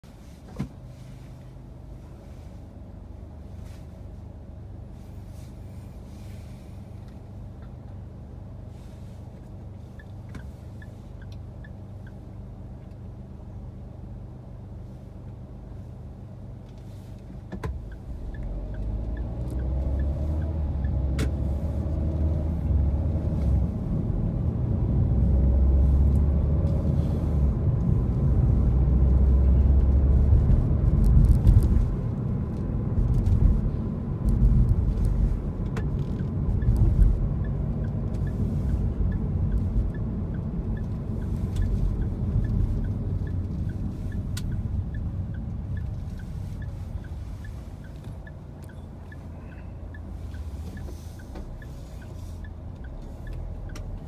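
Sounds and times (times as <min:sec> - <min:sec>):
engine and road noise rumble: 0:00.0 - 0:54.0
car engine idling: 0:00.1 - 0:31.2, 0:31.8 - 0:54.0.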